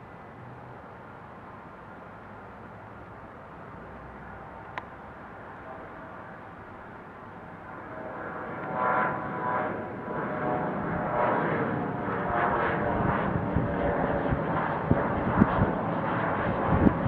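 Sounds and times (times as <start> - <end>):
jet airliner engines: 0.0 - 17.0
steady engine whine: 0.0 - 17.0.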